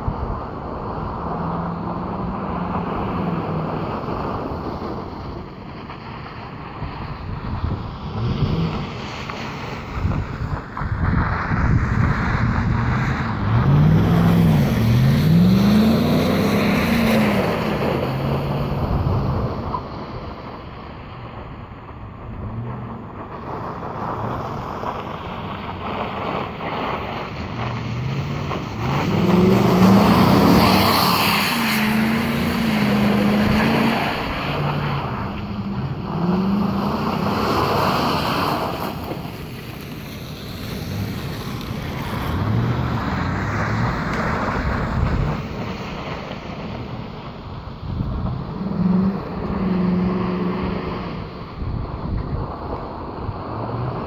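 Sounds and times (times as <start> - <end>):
wind noise on microphone: 0.0 - 54.0
engine revving: 7.6 - 19.9, 22.2 - 54.0.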